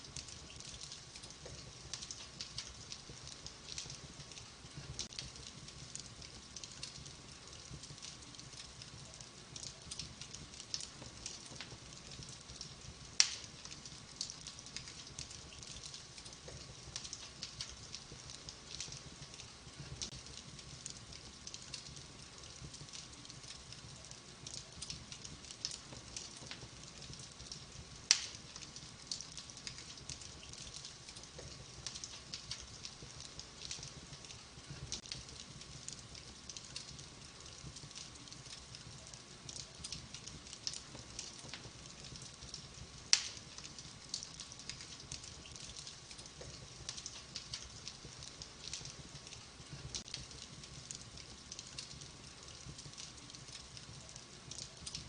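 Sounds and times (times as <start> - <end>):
loud sharp snaps of fire: 0.0 - 55.0
wood fire crackling: 0.0 - 55.0.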